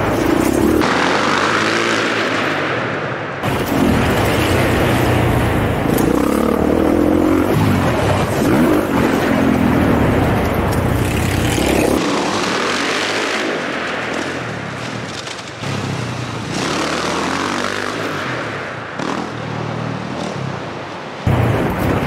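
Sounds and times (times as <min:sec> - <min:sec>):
dirt bike engine revving: 0:00.0 - 0:02.5, 0:03.5 - 0:13.8, 0:15.6 - 0:20.6
distant dirt bike: 0:00.0 - 0:21.2.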